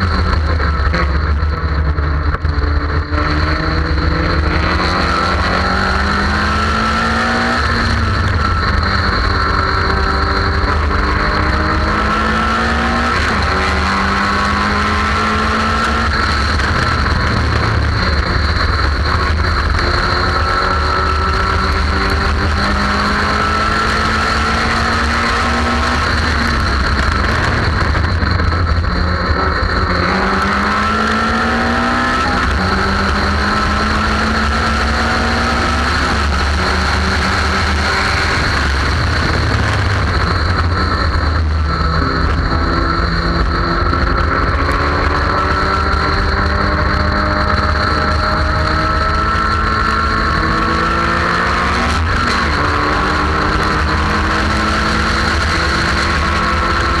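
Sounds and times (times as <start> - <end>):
racing car engine accelerating: 0.0 - 57.0
wind and road noise: 0.0 - 57.0.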